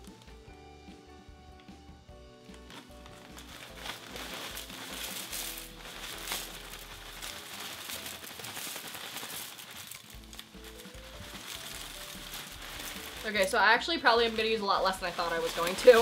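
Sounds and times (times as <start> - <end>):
plastic bag crinkling: 0.0 - 0.5, 2.4 - 16.0
background music: 0.0 - 16.0
dry leaves rustling and crackling: 2.5 - 16.0.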